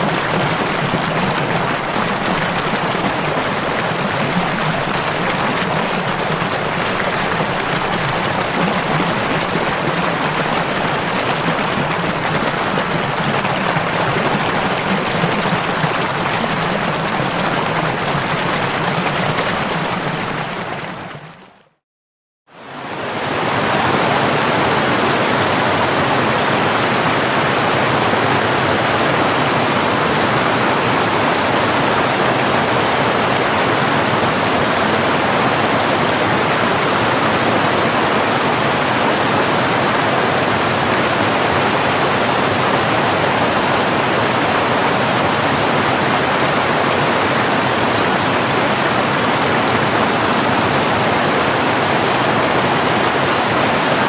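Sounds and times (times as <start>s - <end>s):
rushing water roar: 0.0s - 21.6s, 22.6s - 54.0s.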